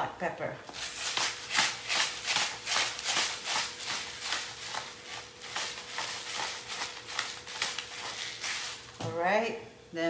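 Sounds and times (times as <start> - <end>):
pepper mill grinding: 0.8 - 9.0.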